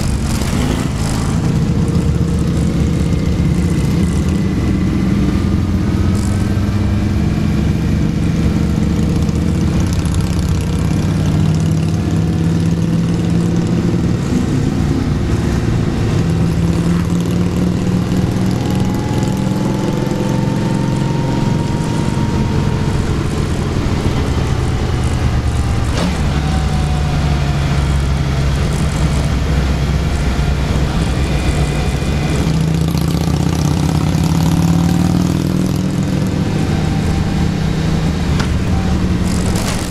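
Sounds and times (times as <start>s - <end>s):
motorcycle engines droning: 0.0s - 39.9s.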